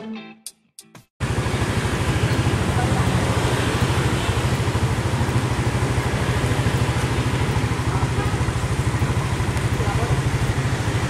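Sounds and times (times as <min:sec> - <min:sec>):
street noise: 0:01.2 - 0:11.0
vehicle engine idling: 0:01.2 - 0:11.0.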